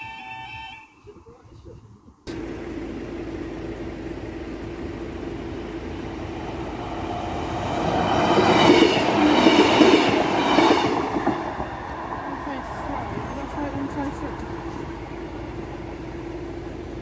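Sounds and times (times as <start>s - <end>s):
train rumble: 0.0s - 17.0s
high train whine: 2.3s - 17.0s.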